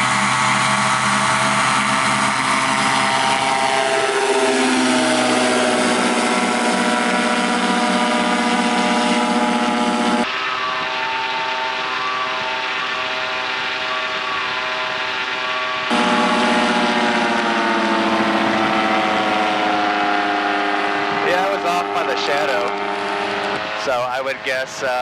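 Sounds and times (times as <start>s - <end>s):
light aircraft engine and propeller: 0.0s - 25.0s.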